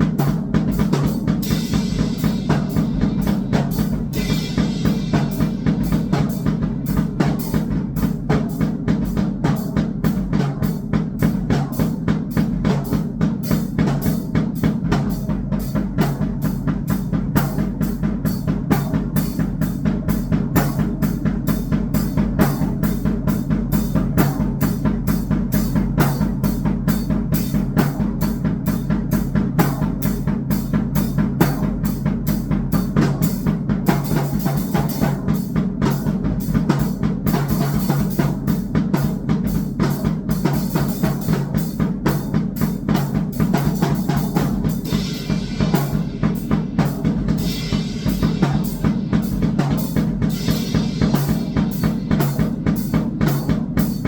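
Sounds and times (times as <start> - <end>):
fast dense drum hits: 0.0 - 54.0.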